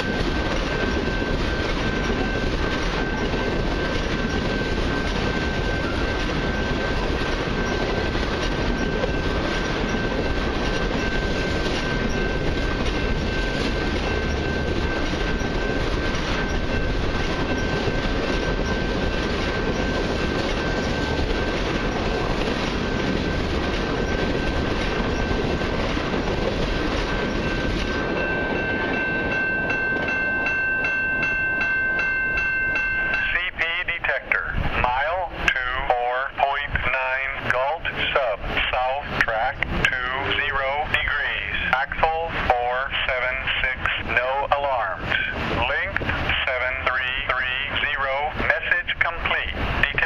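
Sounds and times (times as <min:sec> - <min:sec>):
railroad crossing bell ringing: 0:00.0 - 0:50.0
train wheels clicking over rail joints: 0:00.0 - 0:50.0.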